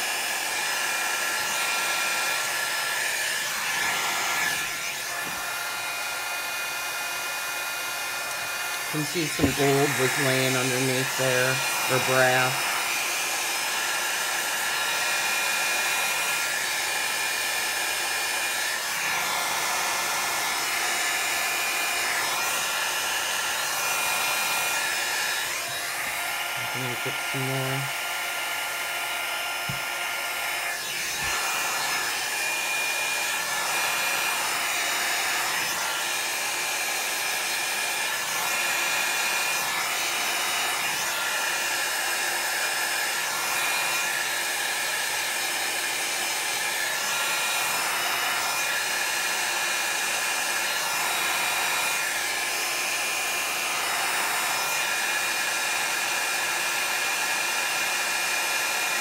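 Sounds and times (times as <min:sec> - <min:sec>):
electric blower motor whine: 0:00.0 - 0:59.0.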